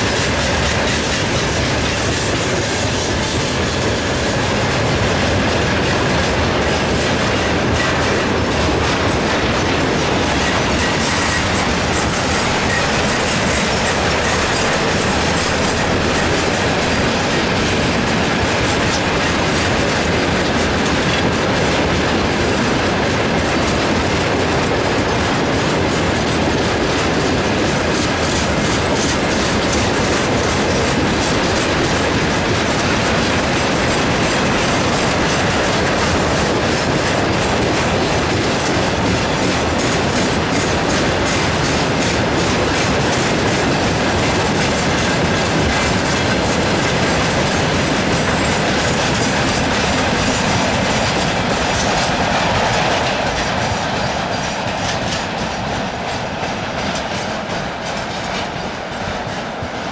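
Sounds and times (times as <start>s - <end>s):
train wheels rumbling on rails: 0.0s - 59.9s
wheels clickety-clack over rail joints: 0.0s - 59.9s.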